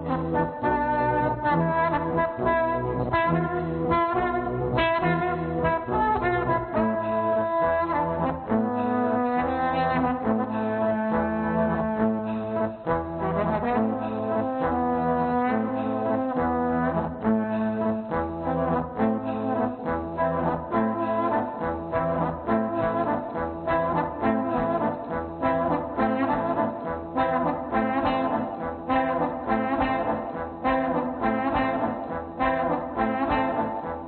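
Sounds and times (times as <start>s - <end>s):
layered looped trombone: 0.0s - 34.0s
pulsing low bass line: 0.0s - 34.0s.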